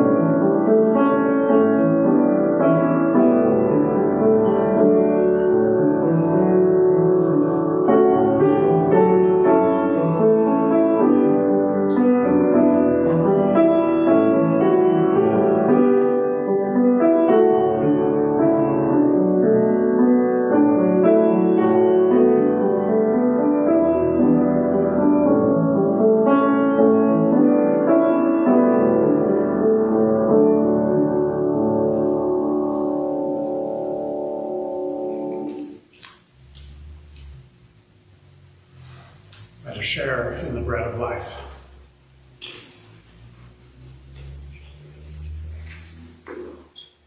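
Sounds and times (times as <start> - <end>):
piano music with held chords: 0.0 - 47.0.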